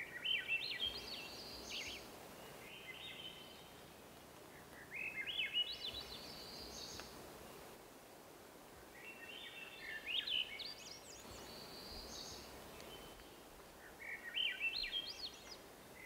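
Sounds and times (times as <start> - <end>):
songbird singing fluty notes: 0.0 - 7.6, 9.0 - 16.0
faint hiss: 0.0 - 16.0.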